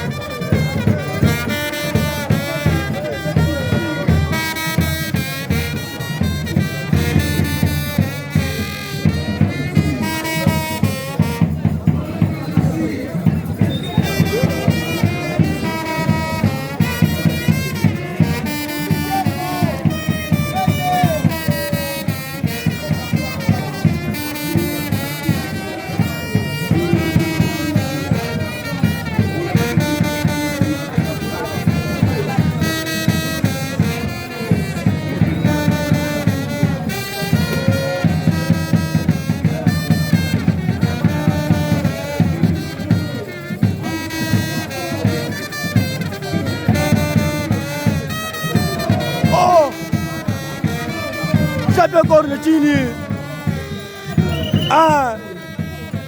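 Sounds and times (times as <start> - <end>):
brass horn music with fast beat: 0.0 - 56.0.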